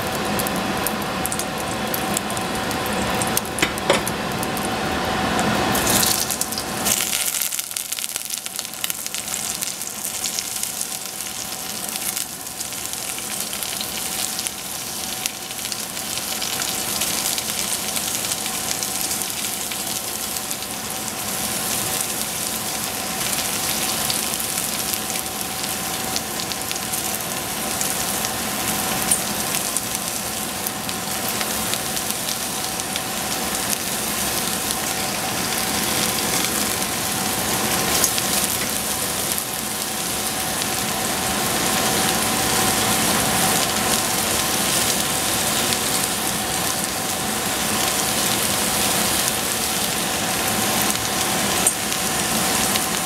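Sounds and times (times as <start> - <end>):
mushrooms sizzling in oil: 0.0 - 53.0.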